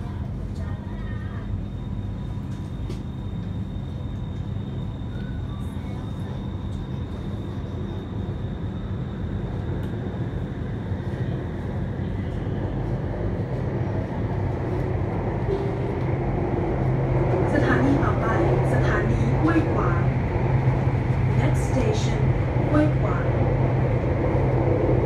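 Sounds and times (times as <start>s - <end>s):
subway train rumble and hum: 0.0s - 25.0s.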